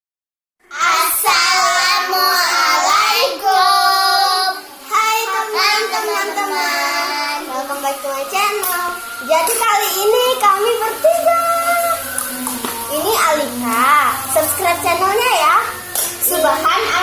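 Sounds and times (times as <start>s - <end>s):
child singing: 0.7s - 17.0s.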